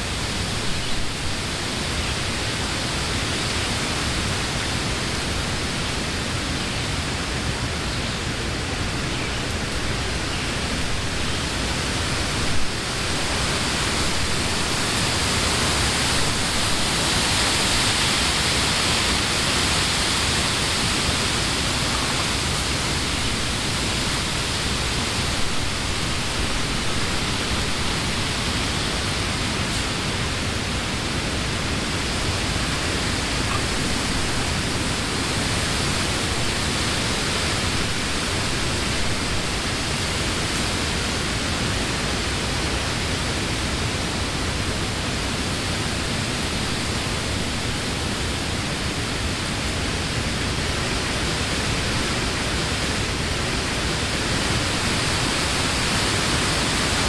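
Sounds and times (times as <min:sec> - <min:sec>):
wind rustling leaves: 0:00.0 - 0:57.0.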